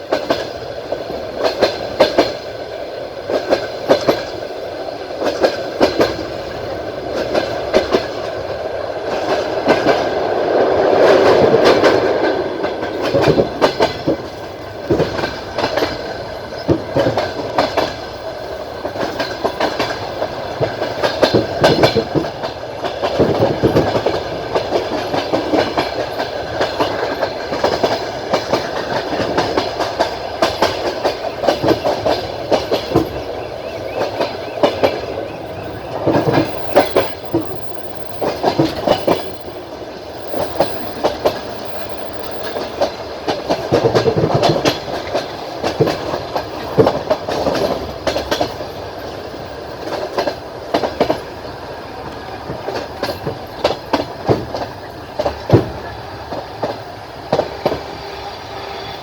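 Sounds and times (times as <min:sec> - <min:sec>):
train running noise: 0:00.0 - 0:59.0
train wheels clicking over rail joints: 0:00.0 - 0:59.0.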